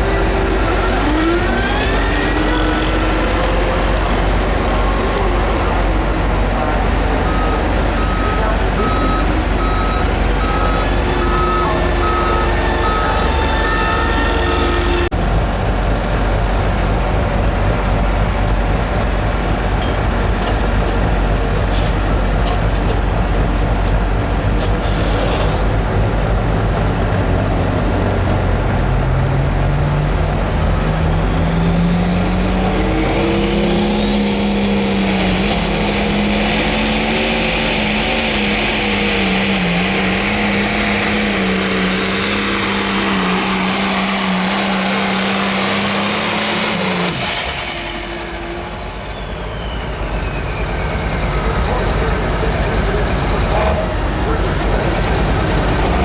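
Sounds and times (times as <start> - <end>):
diesel tractor engine running: 0.0 - 56.0
high turbo whine: 0.0 - 56.0.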